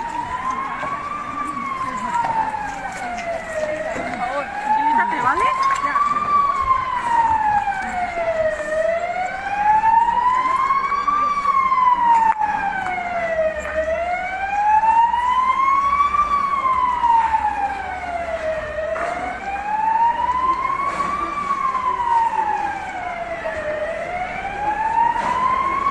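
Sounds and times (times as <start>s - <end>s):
emergency siren wailing: 0.0s - 25.9s.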